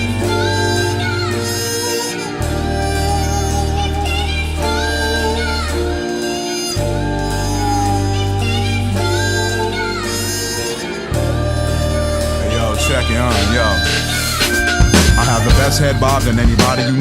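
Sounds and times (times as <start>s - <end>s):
hip-hop music with deep bass: 0.0s - 17.0s.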